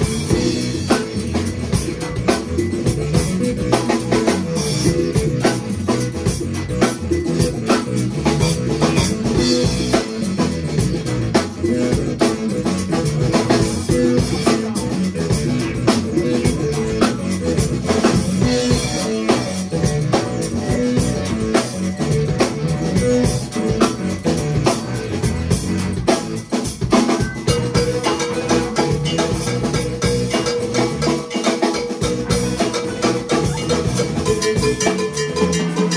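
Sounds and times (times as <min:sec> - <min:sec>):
bass line: 0:00.0 - 0:35.9
drum kit beat: 0:00.0 - 0:35.9
electric guitar: 0:00.0 - 0:35.9
keyboards: 0:00.0 - 0:35.9.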